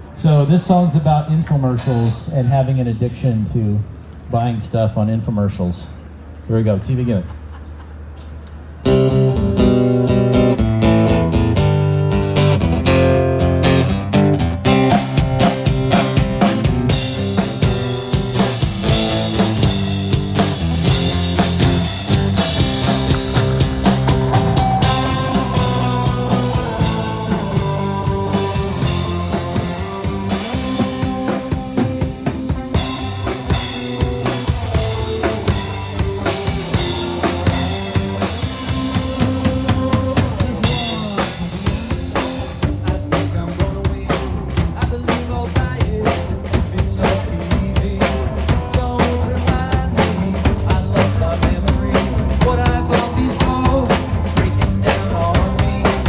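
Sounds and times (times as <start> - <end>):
drum kit beat: 8.9 - 56.0
live band playing: 8.9 - 56.0.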